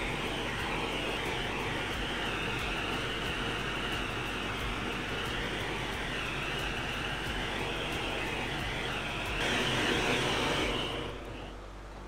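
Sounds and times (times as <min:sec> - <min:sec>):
gas torch hissing: 0:00.0 - 0:11.6.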